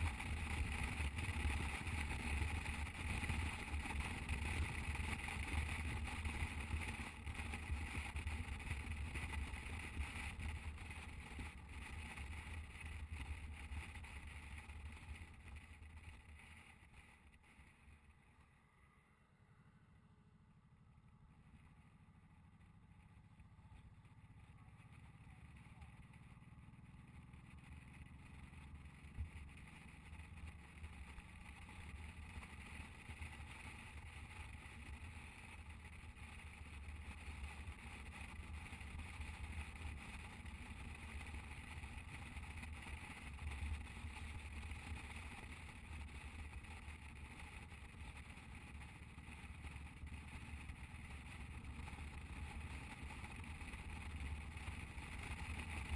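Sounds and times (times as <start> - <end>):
motorcycle engine: 0.0 - 55.9.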